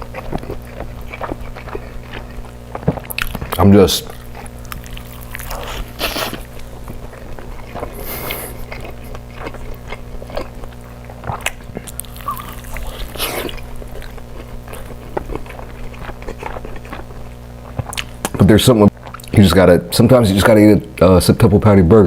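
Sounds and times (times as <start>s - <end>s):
person chewing food: 0.0s - 19.4s
steady low hum: 0.0s - 22.0s.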